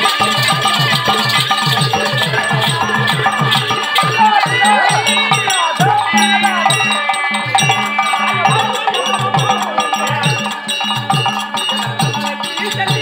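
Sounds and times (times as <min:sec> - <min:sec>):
jingling percussion: 0:00.0 - 0:13.0
wavering melody line: 0:00.0 - 0:13.0.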